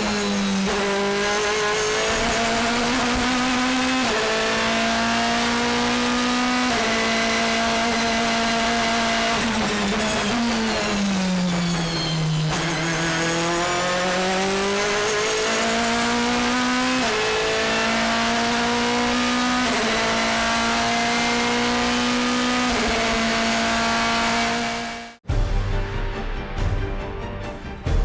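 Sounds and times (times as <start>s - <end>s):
race car engine accelerating: 0.0s - 25.2s.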